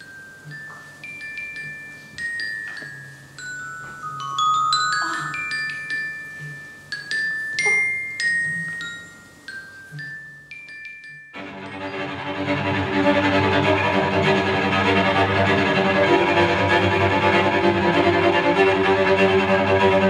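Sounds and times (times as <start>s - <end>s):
glockenspiel notes ringing: 0.0s - 18.1s.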